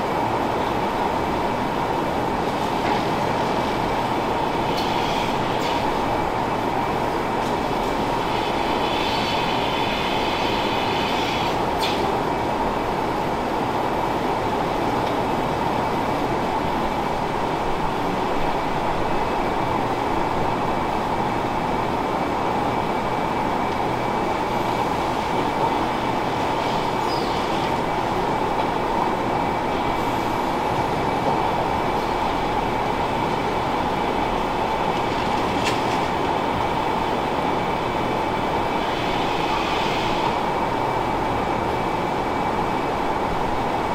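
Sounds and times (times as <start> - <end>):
milking machinery hum and hiss: 0.0 - 43.9.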